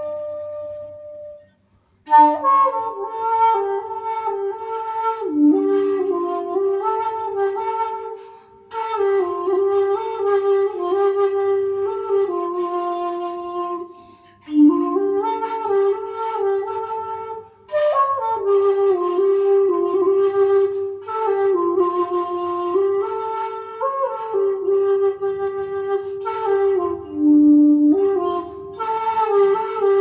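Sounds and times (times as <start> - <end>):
bamboo flute slow melody: 0.0 - 30.0.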